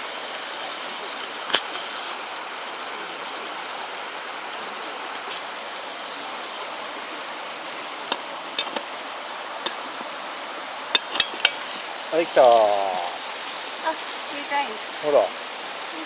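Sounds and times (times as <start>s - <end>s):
fire crackling: 0.0s - 16.0s
food sizzling over campfire: 0.0s - 16.0s.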